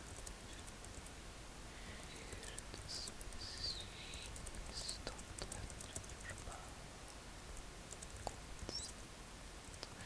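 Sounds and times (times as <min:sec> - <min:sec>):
soft clicks and ticks: 0:00.0 - 0:01.2, 0:02.1 - 0:09.0, 0:09.6 - 0:10.0.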